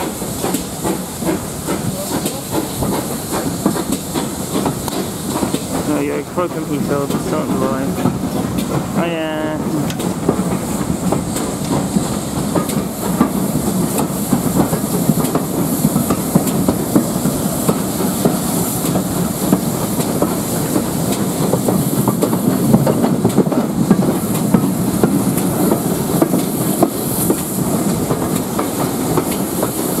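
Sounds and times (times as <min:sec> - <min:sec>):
continuous train rumble: 0:00.0 - 0:30.0
train wheels clicking on rails: 0:00.0 - 0:30.0.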